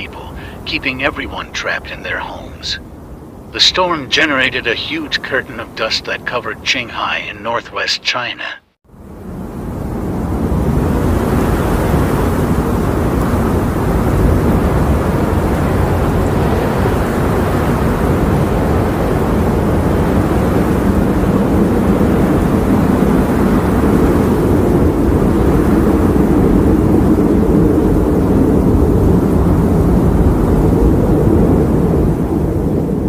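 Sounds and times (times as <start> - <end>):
strong wind rumbling: 0.0 - 7.6, 8.9 - 33.0.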